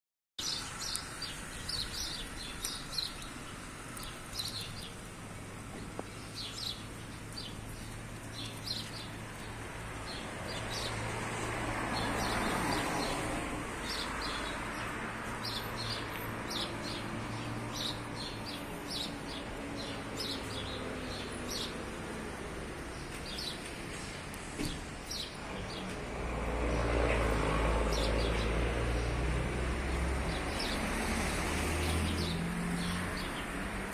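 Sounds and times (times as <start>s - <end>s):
birds chirping: 0.4s - 29.3s, 29.9s - 33.9s
street traffic rumbling: 0.4s - 33.9s.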